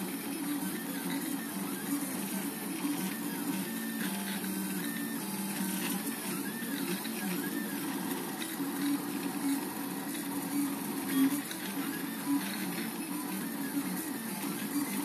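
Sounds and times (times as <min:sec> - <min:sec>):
printer stepper motors whining: 0:00.0 - 0:15.0.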